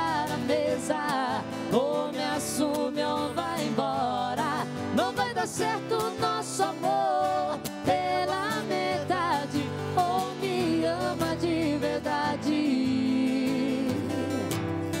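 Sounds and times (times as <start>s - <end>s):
person singing with vibrato: 0.0s - 14.6s
strummed acoustic guitar: 0.0s - 15.0s.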